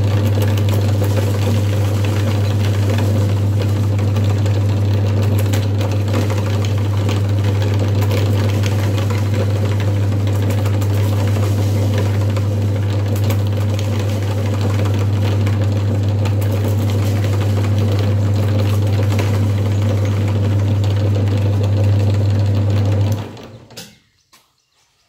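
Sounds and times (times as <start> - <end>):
electric meat grinder motor hum: 0.0 - 23.7.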